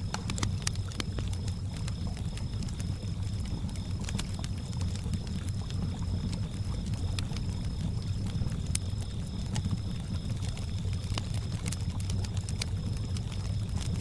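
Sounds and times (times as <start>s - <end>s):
crickets chirping: 0.0s - 14.0s
wood fire crackling and popping: 0.0s - 14.0s.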